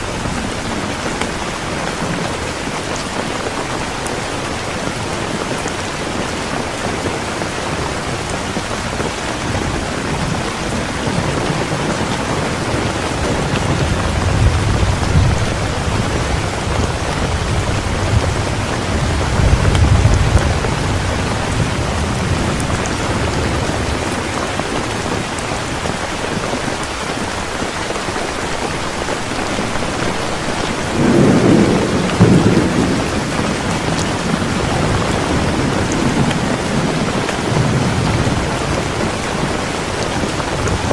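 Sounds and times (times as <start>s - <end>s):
thunder rumbling: 0.0s - 26.4s, 29.2s - 40.9s
heavy rain falling: 0.0s - 40.9s.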